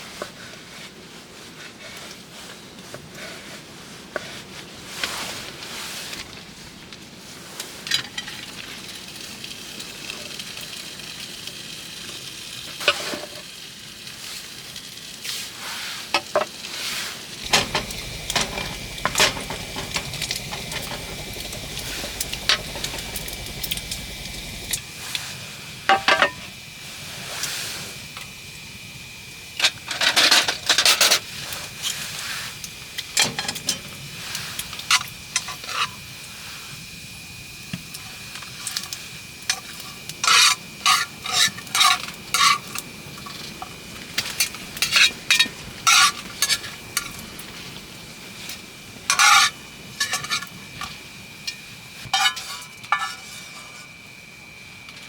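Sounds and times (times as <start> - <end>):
food sizzling in a pan: 7.9 - 53.9.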